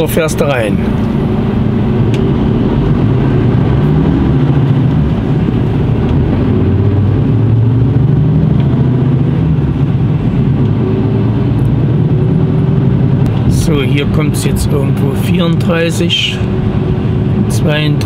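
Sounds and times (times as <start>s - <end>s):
truck diesel engine drone: 0.0s - 18.0s.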